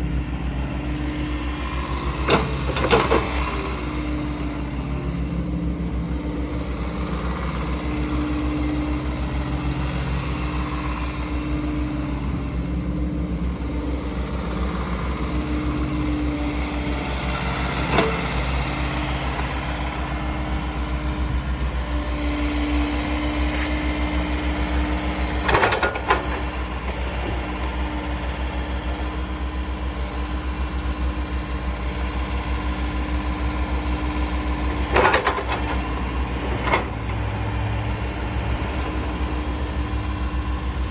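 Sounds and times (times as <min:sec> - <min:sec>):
excavator diesel engine running: 0:00.0 - 0:40.9
hydraulics whining: 0:00.0 - 0:40.9.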